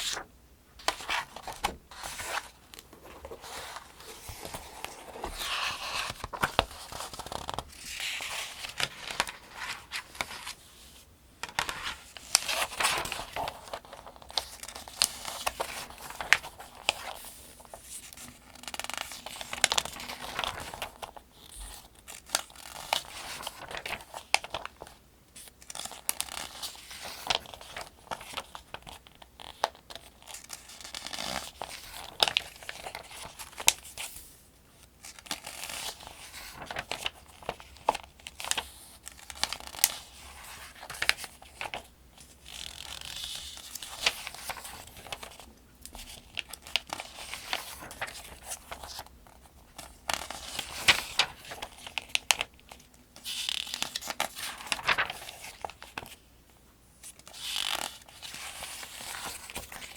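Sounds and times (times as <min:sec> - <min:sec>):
paper pages turning: 0:00.0 - 0:56.2, 0:57.0 - 0:59.9.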